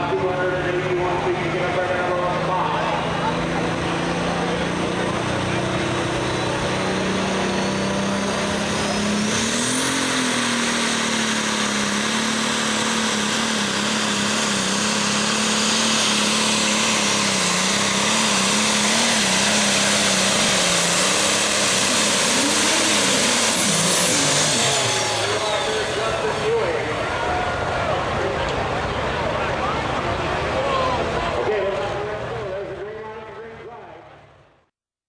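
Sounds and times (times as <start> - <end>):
diesel engine under load: 0.0 - 34.7.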